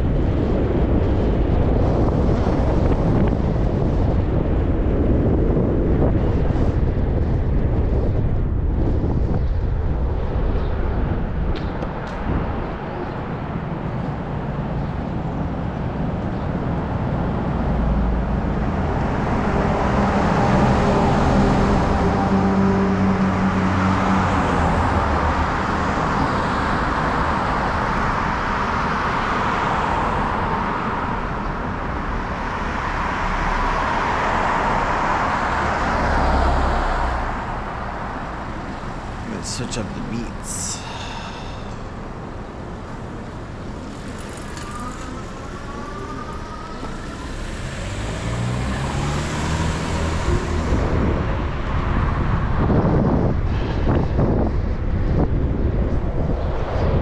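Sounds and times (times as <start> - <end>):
wind rumble on microphone: 0.0 - 39.4, 40.8 - 57.0
road traffic passing: 0.0 - 57.0.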